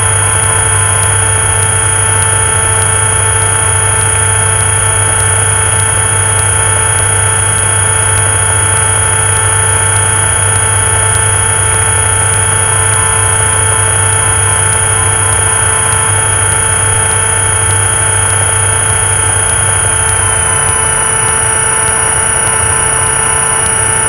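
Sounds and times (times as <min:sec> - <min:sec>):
airplane piston engine droning: 0:00.0 - 0:24.0.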